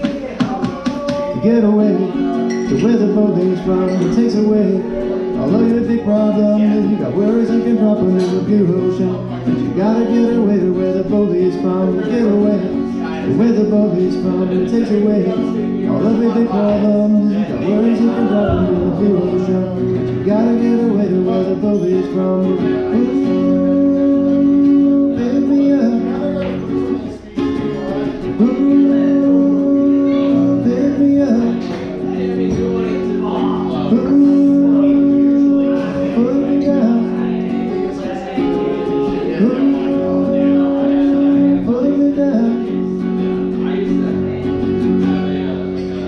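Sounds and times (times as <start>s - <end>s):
acoustic guitar strumming: 0.0s - 46.0s.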